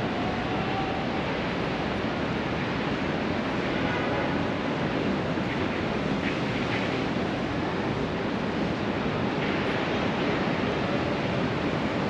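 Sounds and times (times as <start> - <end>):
city rushing noise: 0.0 - 12.0.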